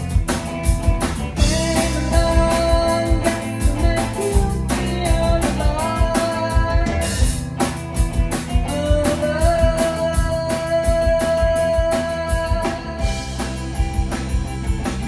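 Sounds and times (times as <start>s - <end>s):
drum kit beat: 0.0s - 15.0s
live rock band: 0.0s - 15.0s
sliding lead guitar line: 0.0s - 15.0s.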